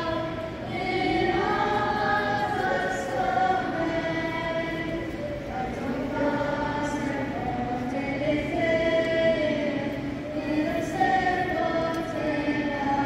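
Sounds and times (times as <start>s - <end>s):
choir singing an anthem: 0.0s - 13.0s.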